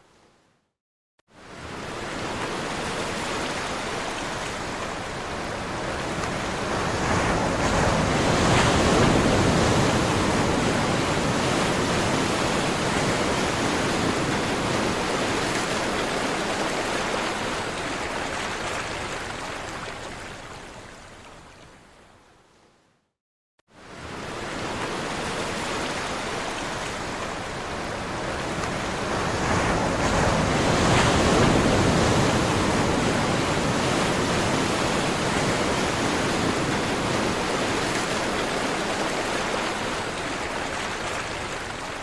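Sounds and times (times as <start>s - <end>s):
sea waves breaking: 1.4s - 20.5s, 23.8s - 42.0s.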